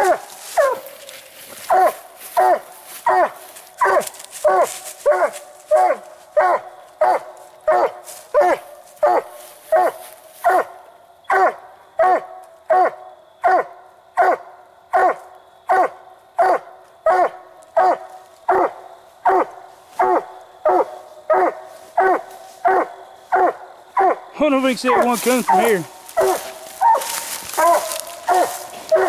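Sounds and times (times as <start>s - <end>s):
hound barking: 0.0s - 29.0s.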